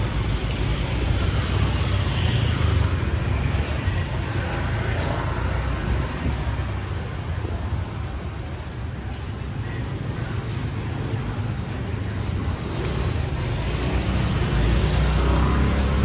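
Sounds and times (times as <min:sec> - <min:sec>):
motorbikes passing: 0:00.0 - 0:16.0.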